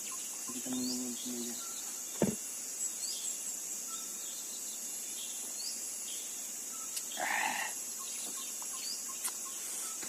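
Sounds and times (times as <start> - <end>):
insects chirping: 0.0 - 10.0
rising bird chirps: 0.0 - 10.0.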